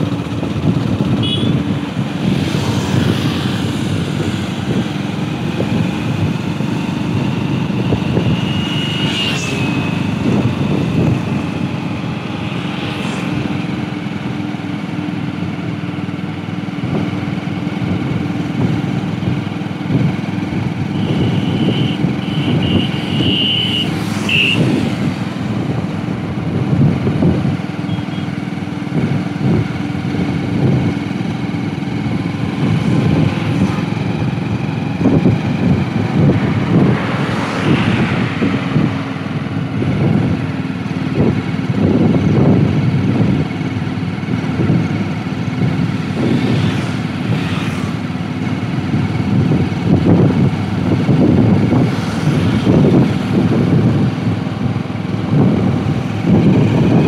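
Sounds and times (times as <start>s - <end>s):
motorcycle engine running: 0.0s - 37.0s, 38.1s - 57.0s
road noise: 0.0s - 57.0s
backhoe loader engine: 9.6s - 23.8s, 25.2s - 57.0s.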